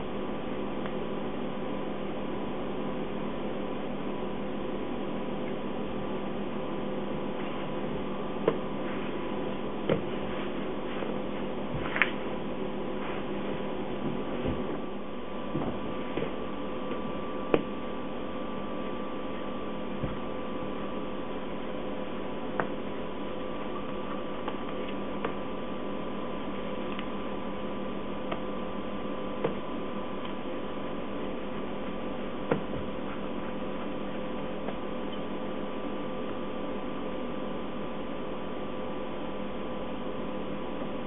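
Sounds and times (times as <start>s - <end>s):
electrical equipment hum: 0.0s - 41.0s.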